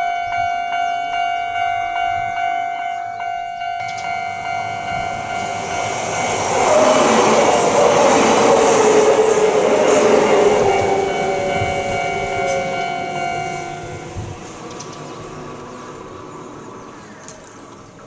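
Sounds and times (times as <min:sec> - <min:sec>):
crossing warning tones: 0:00.0 - 0:18.0
train passing: 0:00.0 - 0:18.0.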